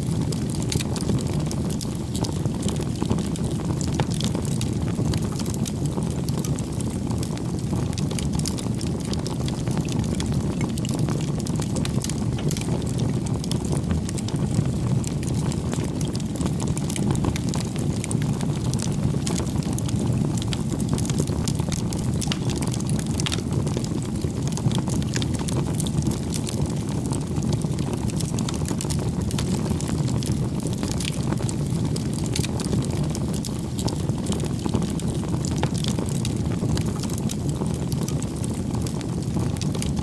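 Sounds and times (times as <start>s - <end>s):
low rumble of flames: 0.0s - 40.0s
wood fire crackling: 0.0s - 40.0s.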